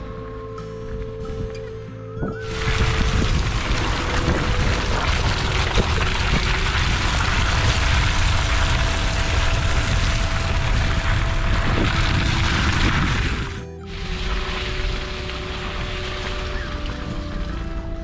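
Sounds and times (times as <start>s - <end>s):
strong wind buffeting microphone: 0.9s - 18.0s.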